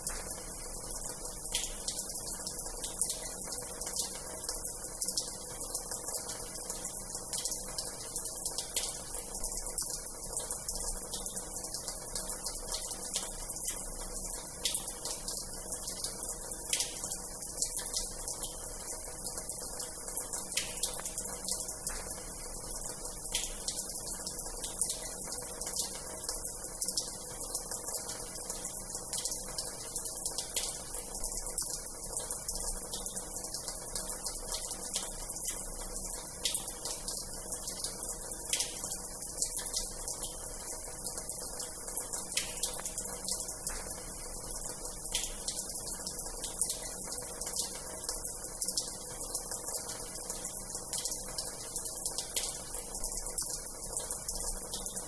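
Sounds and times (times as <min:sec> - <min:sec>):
water running from tap into basin: 0:00.0 - 0:55.0.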